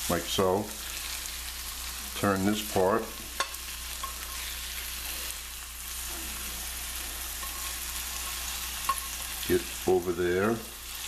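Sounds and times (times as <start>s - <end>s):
omelet sizzling in skillet: 0.0s - 11.0s
spatula turning omelet: 0.1s - 11.0s.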